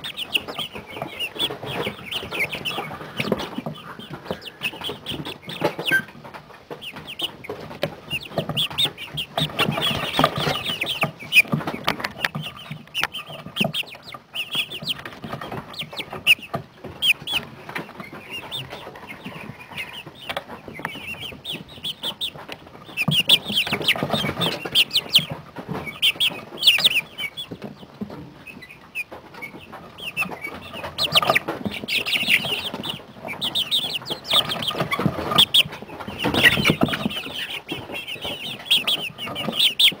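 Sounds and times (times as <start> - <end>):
chicks peeping and clucking: 0.0 - 40.0.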